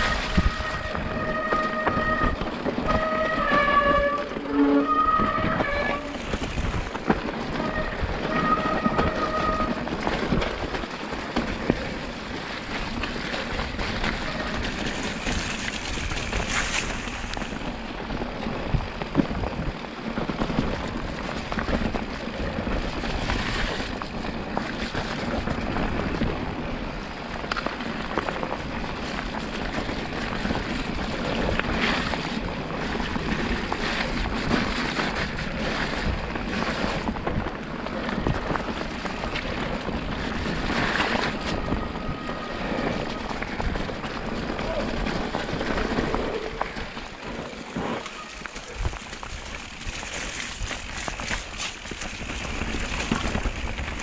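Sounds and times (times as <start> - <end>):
bike tyre noise: 0.0 - 54.0
wind rush: 0.0 - 54.0.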